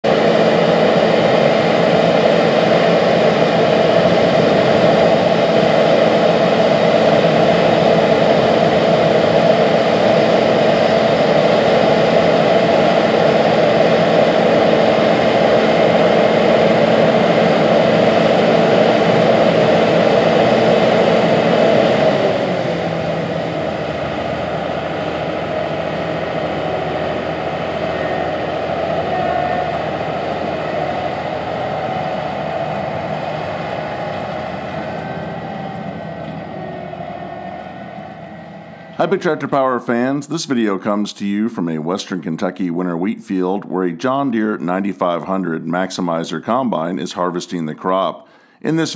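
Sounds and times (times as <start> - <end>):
threshing machinery humming: 0.0 - 40.6
diesel engine: 0.0 - 47.0, 47.6 - 48.9
combine harvester running: 0.0 - 48.9.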